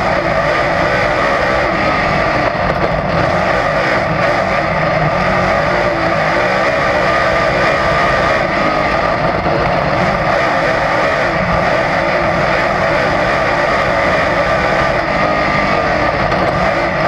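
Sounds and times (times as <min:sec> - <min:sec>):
race car engine running loud: 0:00.0 - 0:17.0.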